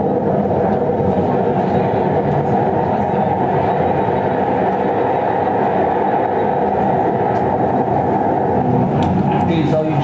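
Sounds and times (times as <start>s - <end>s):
ship machinery rumble: 0.0s - 10.0s.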